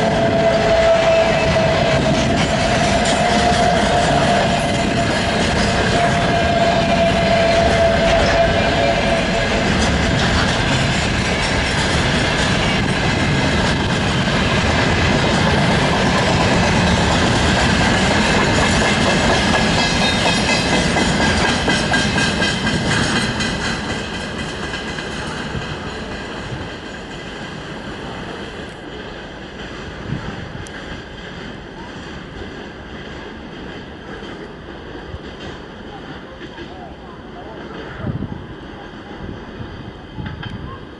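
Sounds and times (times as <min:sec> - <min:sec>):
train wheels clattering over rail joints: 0:00.1 - 0:36.8.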